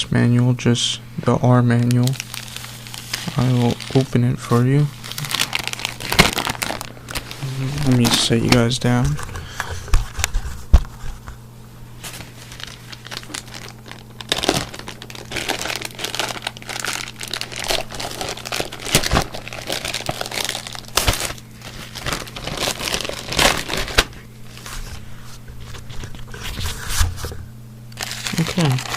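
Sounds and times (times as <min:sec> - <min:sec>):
packaging crinkling and rustling: 0:01.7 - 0:11.2, 0:12.0 - 0:28.9.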